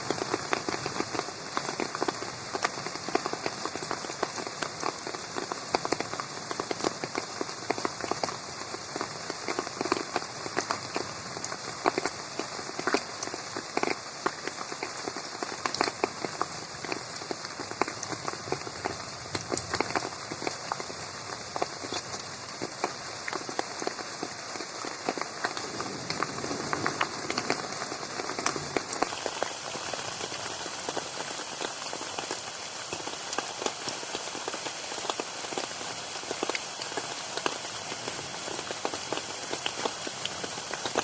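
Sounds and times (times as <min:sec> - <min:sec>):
rain pattering on pond water: 0:00.0 - 0:41.0.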